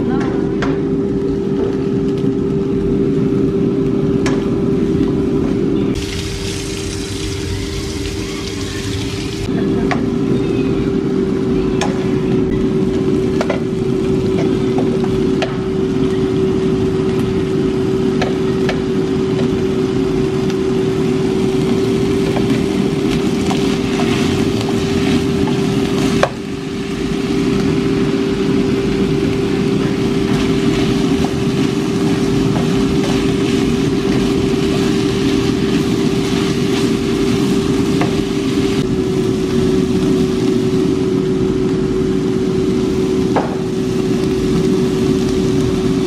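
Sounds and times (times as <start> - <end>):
loud machine hum: 0.0 - 46.0
meat sizzling in a frying pan: 5.9 - 9.5, 11.9 - 46.0.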